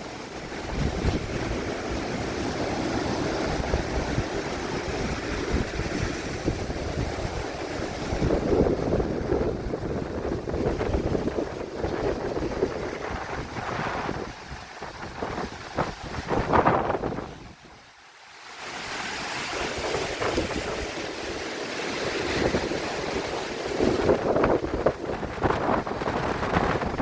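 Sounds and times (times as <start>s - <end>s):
wind buffeting microphone: 0.0s - 17.8s, 18.9s - 27.0s
ocean waves breaking: 0.0s - 27.0s.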